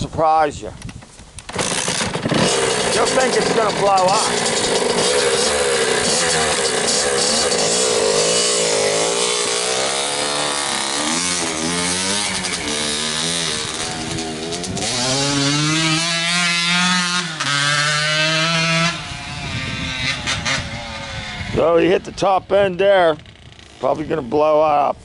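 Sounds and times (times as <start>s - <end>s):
two-stroke engine revving: 1.5s - 24.2s.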